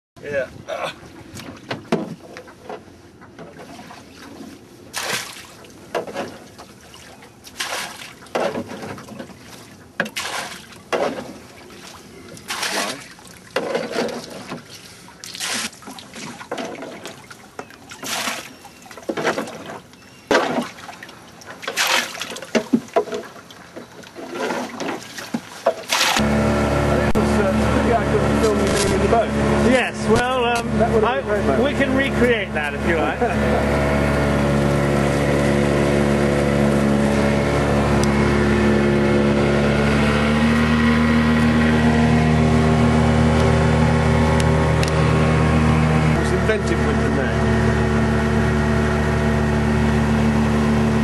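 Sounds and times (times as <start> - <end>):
water splashing from bailing: 3.4 - 51.0.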